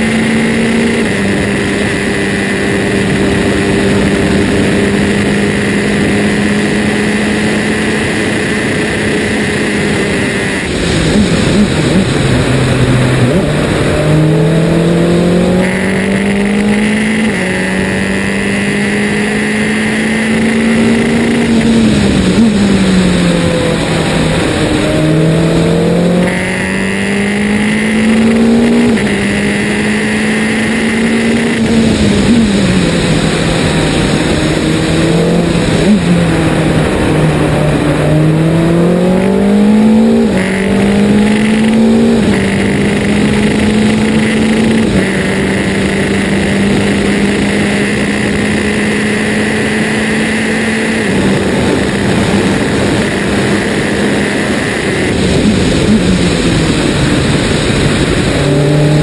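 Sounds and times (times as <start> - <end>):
race car engine revving: 0.0 - 59.0
wind and tyre noise: 0.0 - 59.0.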